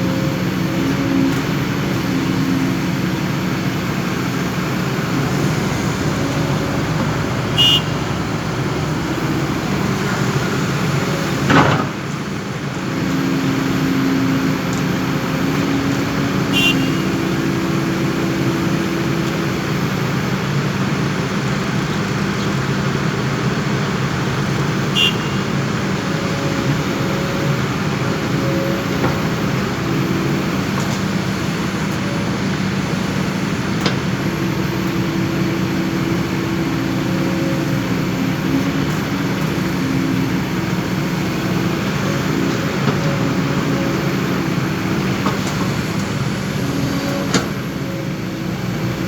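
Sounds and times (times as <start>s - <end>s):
diesel engine running steadily: 0.0s - 49.0s.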